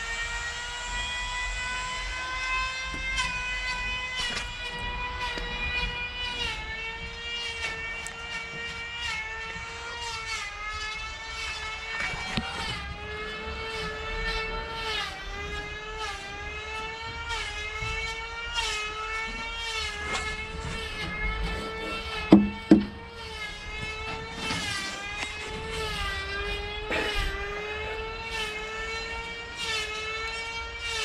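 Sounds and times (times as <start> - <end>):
power tool whining: 0.0 - 31.0.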